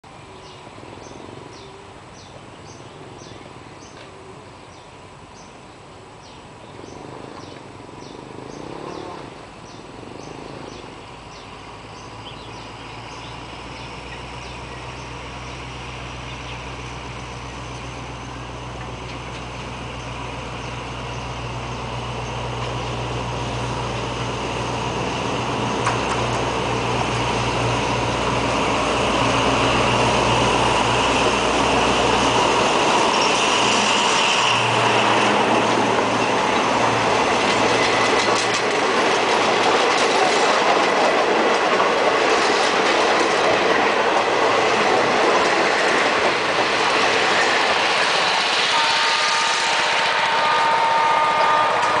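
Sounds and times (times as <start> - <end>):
diesel locomotive engine: 0.0 - 52.0
train wheels running over rails: 6.7 - 52.0.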